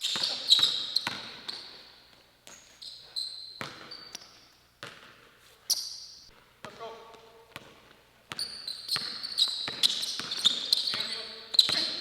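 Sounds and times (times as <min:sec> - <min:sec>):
basketball bouncing on gym floor: 0:00.0 - 0:02.7, 0:03.6 - 0:05.3, 0:06.3 - 0:12.0.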